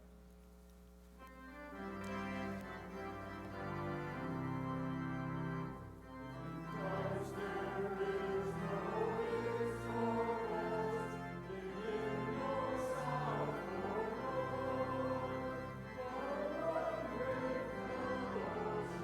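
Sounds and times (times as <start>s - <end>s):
church organ low notes: 1.2s - 19.0s
choir singing: 1.8s - 19.0s.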